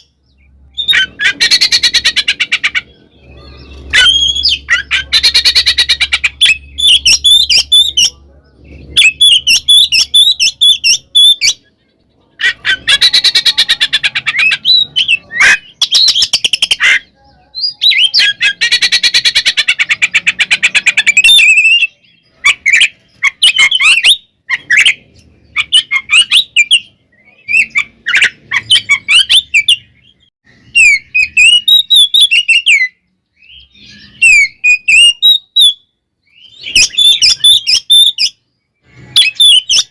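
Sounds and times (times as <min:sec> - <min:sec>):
bird singing rattling chatter: 0:00.0 - 0:39.9
bird whistled phrases: 0:00.7 - 0:08.2, 0:08.9 - 0:11.7, 0:12.4 - 0:39.9.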